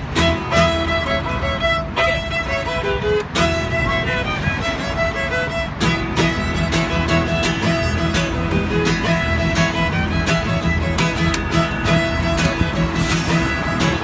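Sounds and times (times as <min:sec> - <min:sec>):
fiddle melody: 0:00.0 - 0:14.0
plucked double bass: 0:00.0 - 0:14.0
strummed acoustic guitar: 0:00.0 - 0:14.0.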